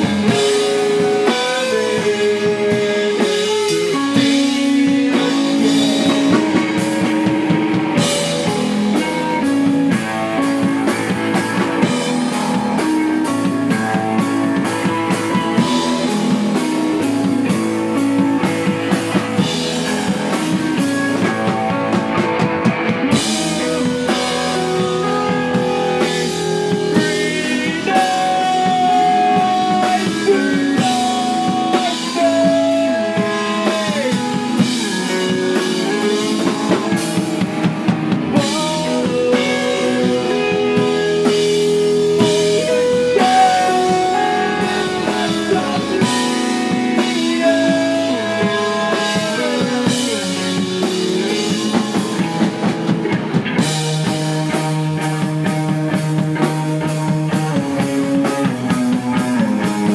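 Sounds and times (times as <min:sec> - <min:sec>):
drum kit: 0:00.0 - 0:59.9
electric guitars bending notes: 0:00.0 - 0:59.9
rock band playing: 0:00.0 - 0:59.9.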